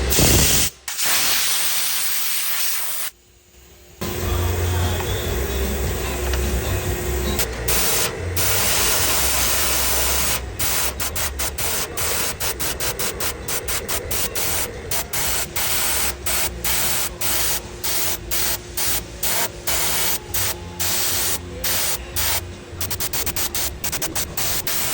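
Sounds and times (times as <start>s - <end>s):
paint spray gun hissing: 0.0s - 3.1s, 7.4s - 24.9s.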